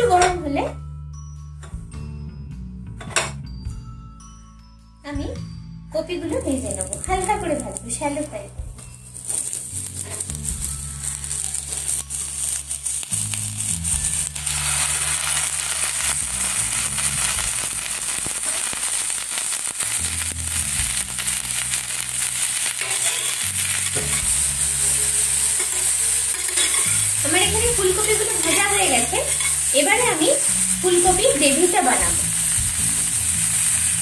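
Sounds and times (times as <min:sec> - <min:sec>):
soft background music: 0:00.0 - 0:34.0
cauliflower sizzling in hot oil: 0:06.4 - 0:34.0.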